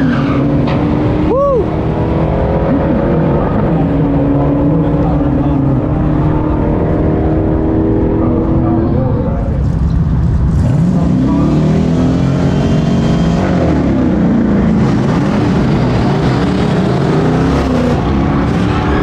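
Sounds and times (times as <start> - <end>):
racing car engine accelerating: 0.0 - 19.0.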